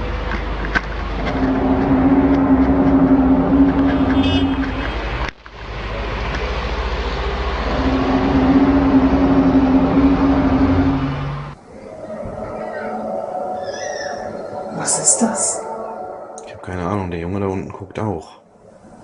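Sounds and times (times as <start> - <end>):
low droning tone: 0.0 - 17.8
deep rumble: 0.0 - 18.0.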